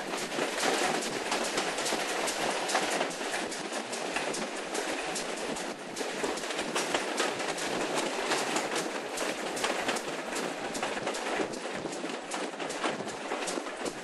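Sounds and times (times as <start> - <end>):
train running noise: 0.0 - 14.0
wheels clicking on track: 0.0 - 14.0.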